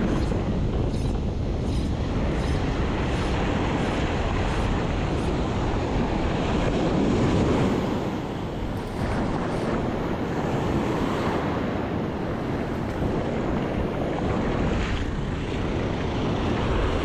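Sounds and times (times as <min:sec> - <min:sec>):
surf washing up beach: 0:00.0 - 0:17.0
wind buffeting microphone: 0:00.0 - 0:17.0.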